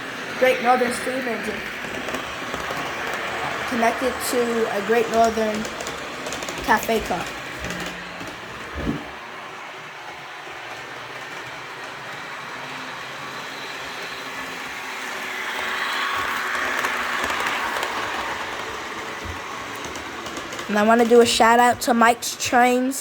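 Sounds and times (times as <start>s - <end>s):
model trains rolling hiss: 0.0s - 23.0s.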